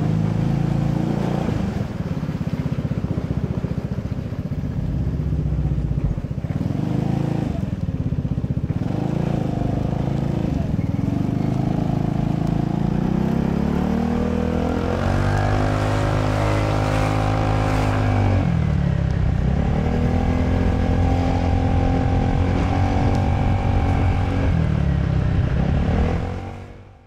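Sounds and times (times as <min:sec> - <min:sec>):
scooter engine accelerating: 0:00.0 - 0:27.0.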